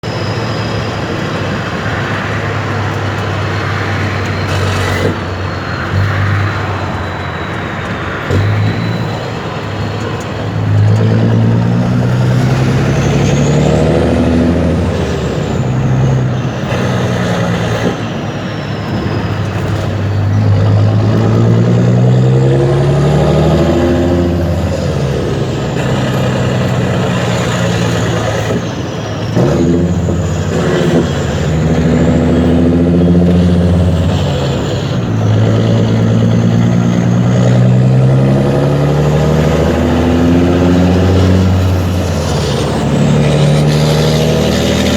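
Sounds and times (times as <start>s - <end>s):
truck diesel engine shifting gears: 0.0s - 44.9s.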